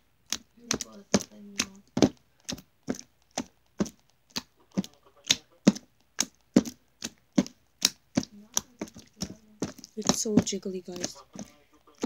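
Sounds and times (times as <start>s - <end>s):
hands slapping wet slime: 0.2s - 12.0s.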